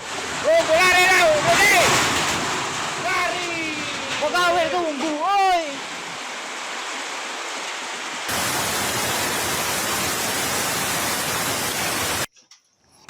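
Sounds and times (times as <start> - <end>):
driving rain: 0.0 - 12.3.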